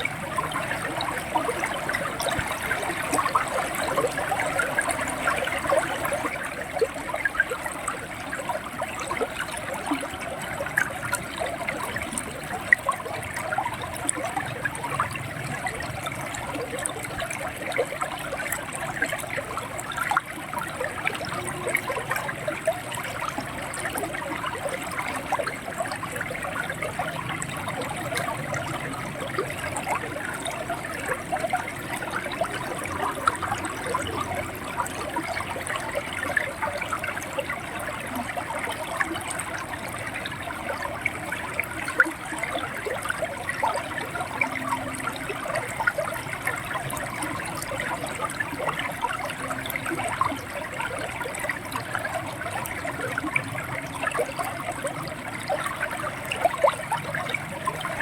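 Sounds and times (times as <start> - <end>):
river water over stones: 0.0 - 58.0.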